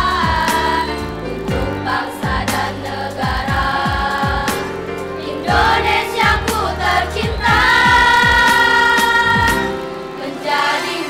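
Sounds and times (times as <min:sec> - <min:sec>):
girls' choir singing in harmony: 0:00.0 - 0:11.0.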